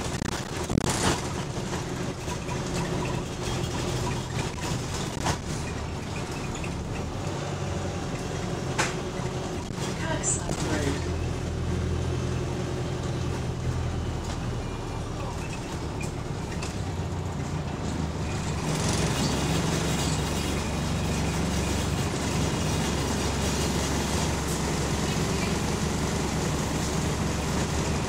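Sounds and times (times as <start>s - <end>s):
bus diesel engine humming: 0.0s - 28.0s.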